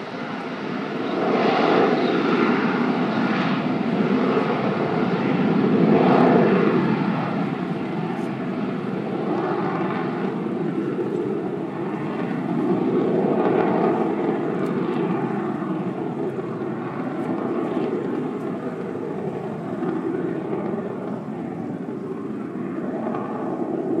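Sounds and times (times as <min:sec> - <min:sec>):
distant jet engine rumble: 0:00.0 - 0:24.0.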